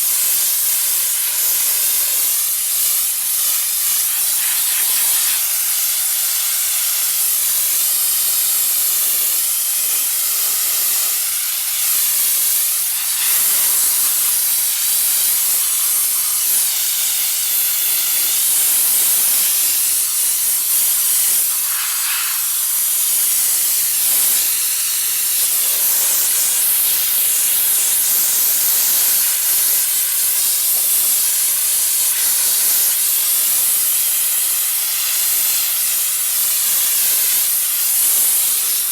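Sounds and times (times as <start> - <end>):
steam jet hissing: 0.0 - 38.9.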